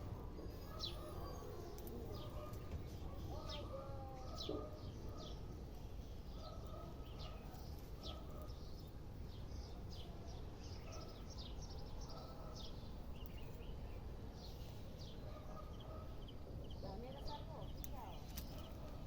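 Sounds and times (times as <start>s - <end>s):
steady low background noise: 0.0s - 19.0s
small birds chirping: 0.3s - 19.0s.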